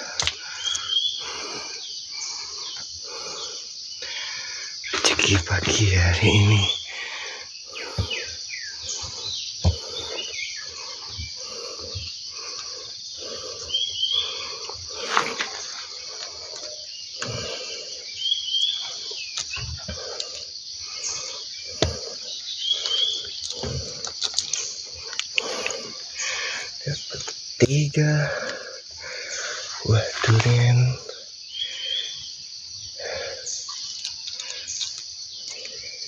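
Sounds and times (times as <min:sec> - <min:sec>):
high-pitched insect drone: 0:00.0 - 0:36.0.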